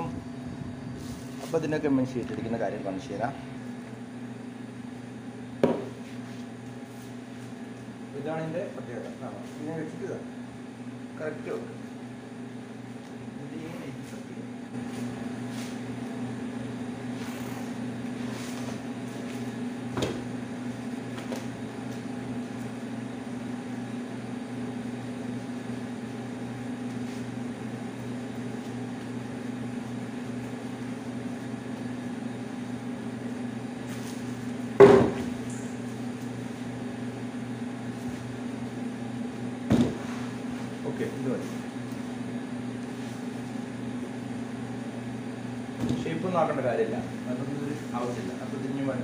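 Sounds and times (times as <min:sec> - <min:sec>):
appliance humming: 0:00.0 - 0:49.0.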